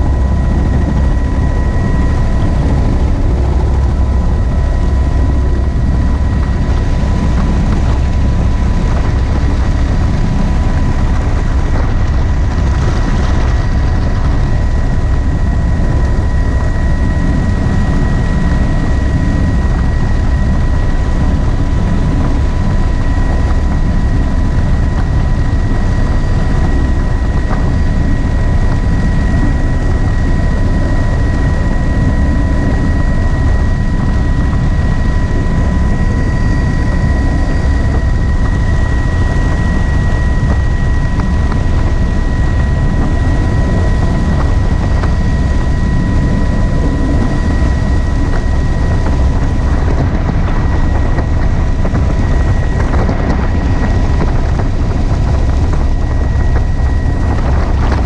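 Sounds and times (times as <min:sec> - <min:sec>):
helicopter rotor and engine: 0:00.0 - 0:58.0
steady high whine: 0:00.0 - 0:58.0
wind rushing on microphone: 0:00.0 - 0:58.0.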